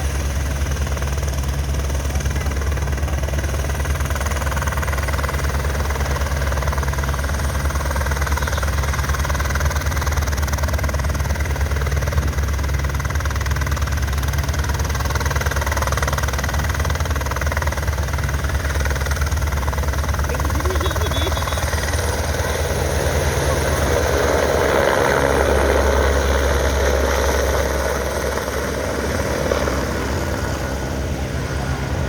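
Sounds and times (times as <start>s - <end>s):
helicopter engine whine: 0.0s - 32.0s
helicopter rotor chopping: 0.0s - 32.0s.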